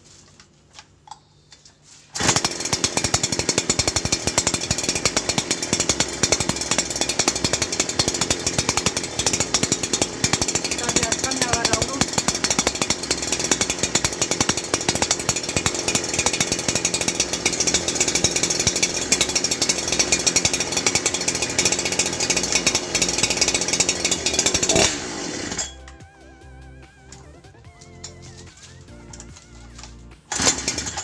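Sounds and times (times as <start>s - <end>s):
chainsaw running: 2.1s - 31.0s.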